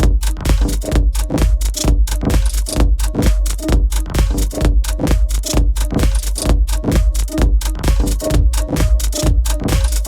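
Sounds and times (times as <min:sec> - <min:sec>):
crisp hi-hat strokes: 0:00.0 - 0:10.0
electronic dance music: 0:00.0 - 0:10.0
heavy kick drum: 0:00.0 - 0:10.0.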